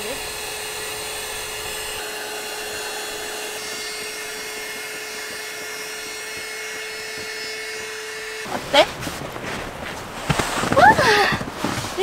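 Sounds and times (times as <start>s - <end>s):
electric fan whirring: 0.0s - 12.0s.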